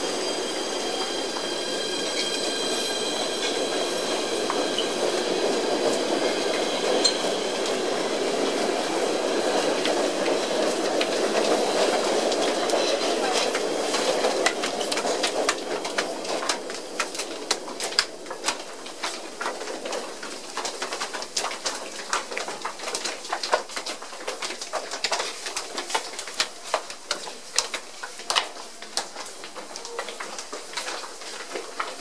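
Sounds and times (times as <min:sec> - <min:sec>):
footsteps climbing stairs: 0:00.0 - 0:32.0.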